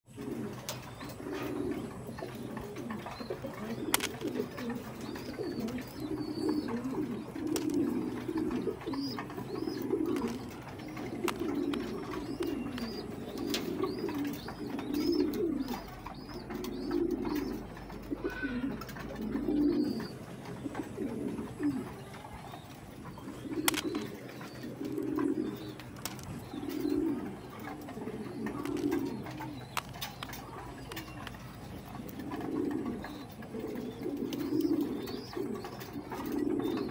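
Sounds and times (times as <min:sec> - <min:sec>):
pigeons cooing: 0:00.1 - 0:36.9.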